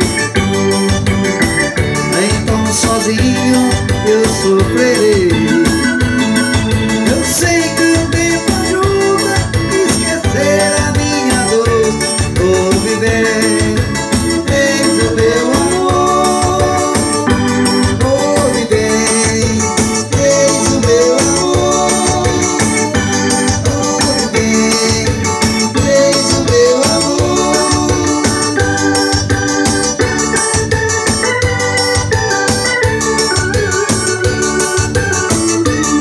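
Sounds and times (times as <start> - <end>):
drum and bass backing rhythm: 0.0 - 36.0
organ-like keyboard melody: 0.0 - 36.0.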